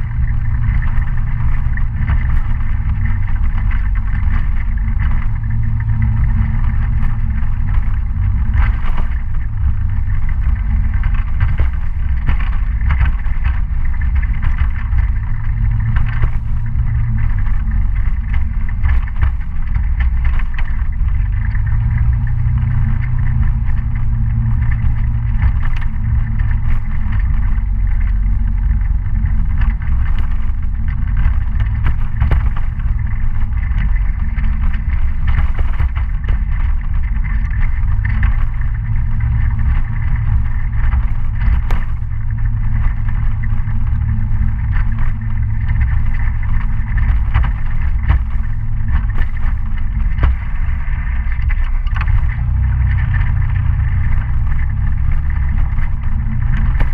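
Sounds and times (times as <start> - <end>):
knocks and rattles from bumps: 0.0 - 56.9
scooter engine rumble: 0.0 - 56.9.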